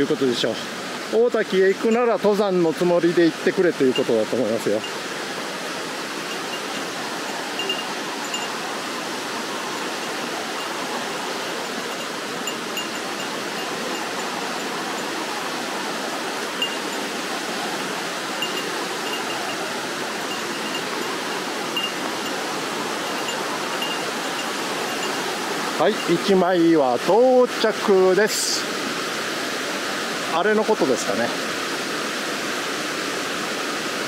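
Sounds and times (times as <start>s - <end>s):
mountain stream rushing over rock: 0.0s - 34.0s.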